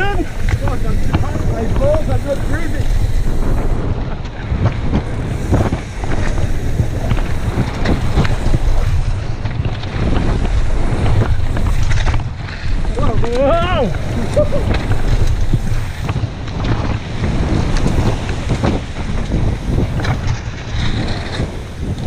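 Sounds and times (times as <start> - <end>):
bike rattling and knocking: 0.0 - 22.0
wind buffeting microphone: 0.0 - 22.0.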